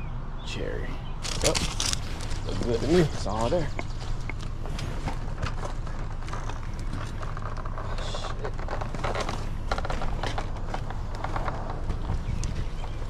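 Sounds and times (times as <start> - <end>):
hand truck rolling over pavement: 1.2 - 13.0.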